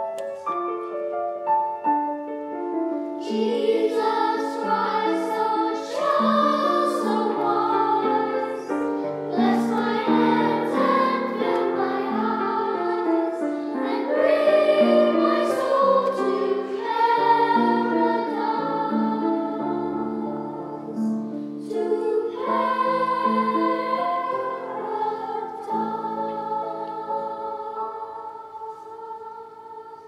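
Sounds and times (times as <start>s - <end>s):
piano accompaniment: 0.0s - 30.0s
children's choir singing: 3.0s - 30.0s.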